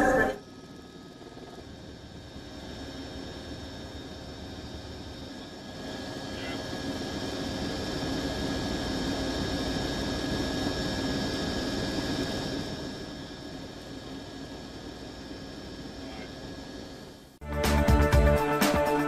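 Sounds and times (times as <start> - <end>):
engine drone with whining tones: 0.0 - 19.0.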